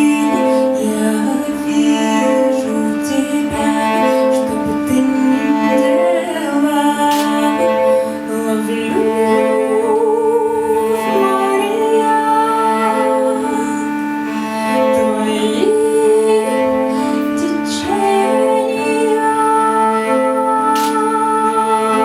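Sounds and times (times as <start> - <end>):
cellos playing bowed notes: 0.0 - 22.0
woman singing: 0.0 - 22.0.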